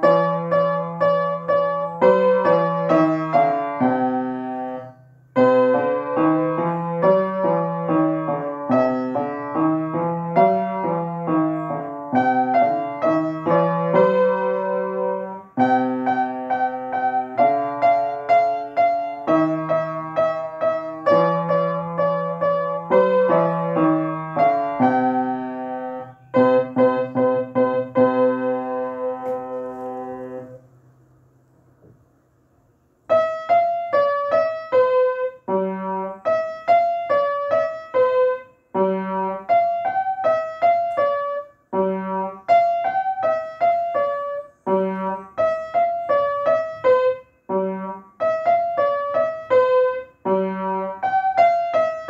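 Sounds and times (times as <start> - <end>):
upright piano playing: 0.0 - 30.8, 33.1 - 52.0.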